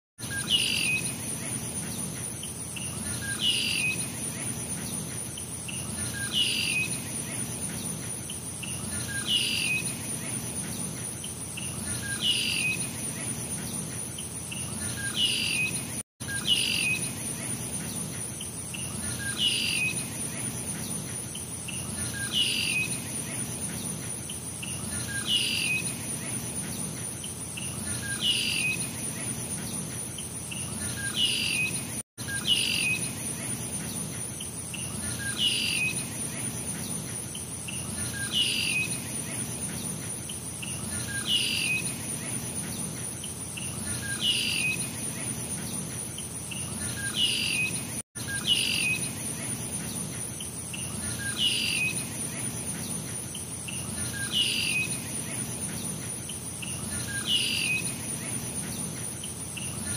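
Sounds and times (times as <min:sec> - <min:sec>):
bird chirping: 0:00.2 - 0:59.9
high insect trill: 0:00.2 - 0:59.9.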